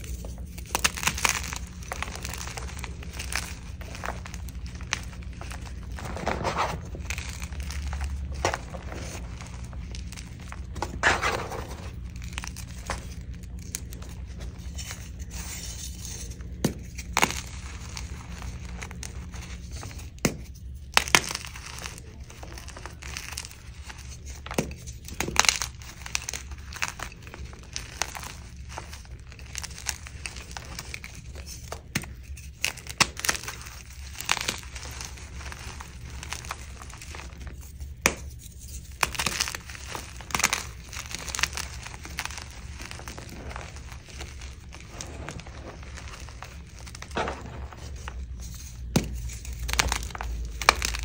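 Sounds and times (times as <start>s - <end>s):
chalk crunching and crumbling: 0.0s - 51.0s
chalk pieces cracking: 0.0s - 51.0s.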